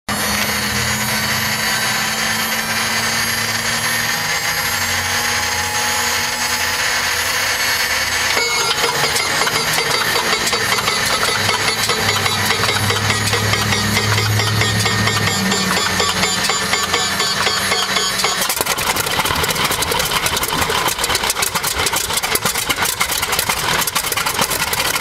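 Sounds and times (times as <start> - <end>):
radial engine clattering: 0.1 - 25.0
starter motor whine: 0.1 - 25.0.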